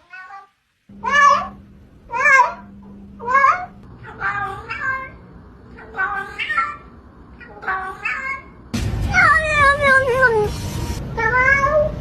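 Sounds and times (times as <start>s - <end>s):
cat meowing: 0.0s - 5.2s, 5.8s - 10.5s, 11.2s - 12.0s
low steady hum: 0.8s - 11.2s.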